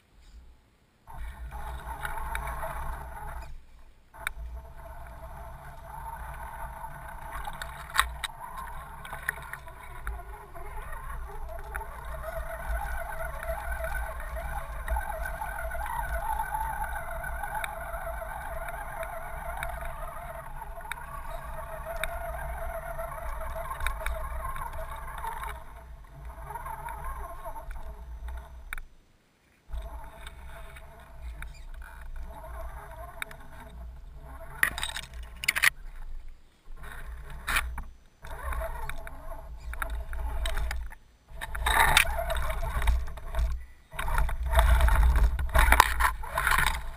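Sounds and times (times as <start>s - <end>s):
twigs clicking and scraping: 1.1s - 28.9s, 34.5s - 46.9s.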